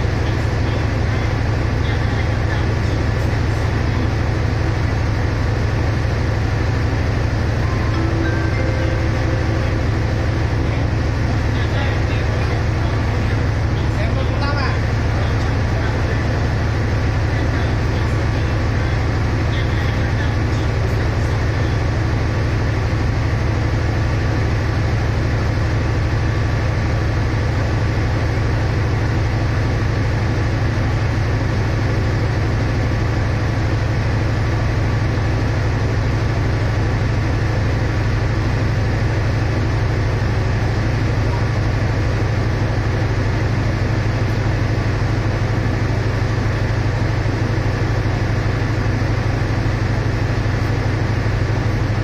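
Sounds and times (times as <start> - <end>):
diesel train engine idling: 0.0 - 52.0.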